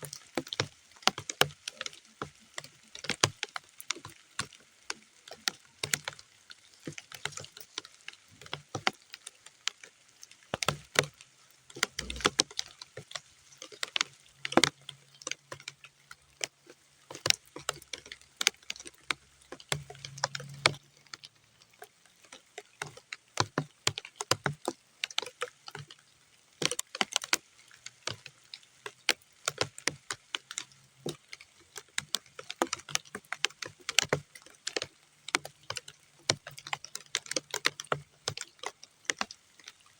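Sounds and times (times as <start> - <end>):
raindrops on muddy ground: 0.0 - 39.9.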